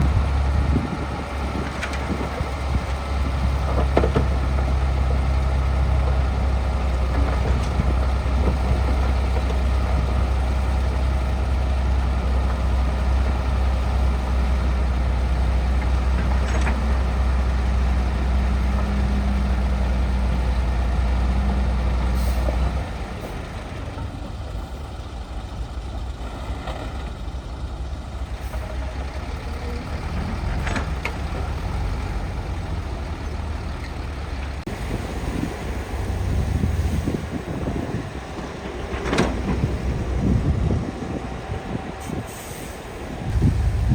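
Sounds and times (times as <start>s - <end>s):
diesel engine drone: 0.0s - 43.9s.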